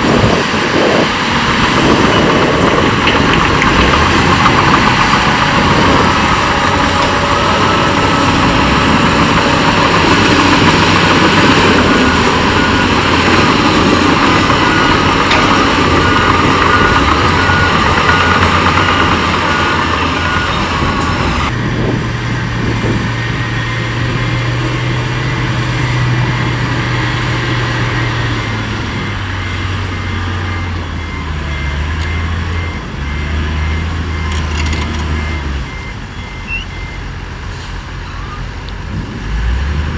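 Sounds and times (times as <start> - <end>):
reversing alarm beeping: 0.0 - 38.5
heavy machinery diesel engines: 0.0 - 39.9.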